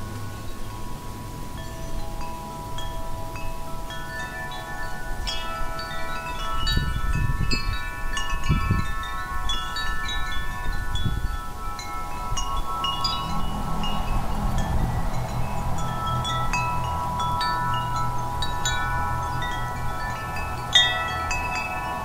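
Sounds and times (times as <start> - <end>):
low rumbling wind gusts: 0.0 - 22.0
wind chimes ringing: 0.0 - 22.0.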